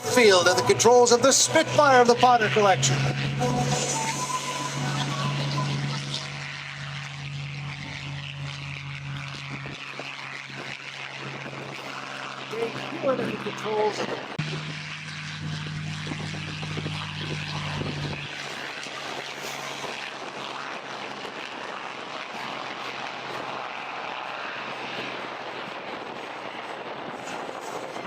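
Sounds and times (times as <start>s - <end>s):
propeller planes droning: 0.0s - 28.0s.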